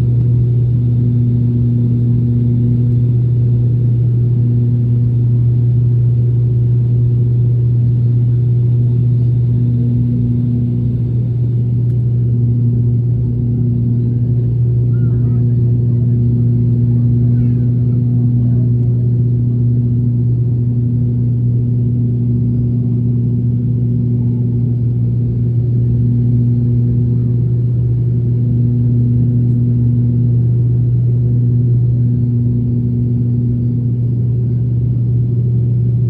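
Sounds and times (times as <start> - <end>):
turboprop engines droning in cabin: 0.0 - 36.0.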